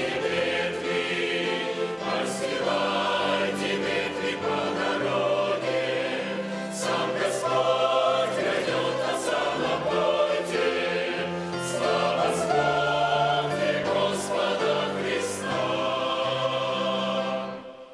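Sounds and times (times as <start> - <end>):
mixed choir singing a hymn: 0.0 - 17.9.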